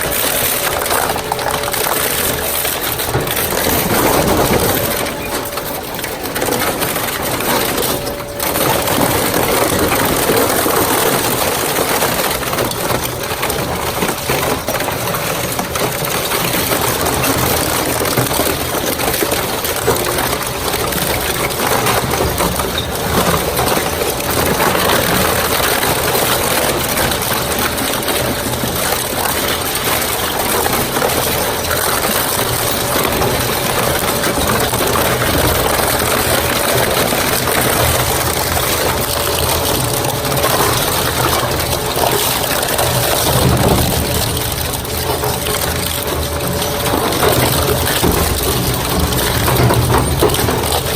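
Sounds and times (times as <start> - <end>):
metal and plastic crunching: 0.0 - 50.9
shredder machine humming: 0.0 - 50.9.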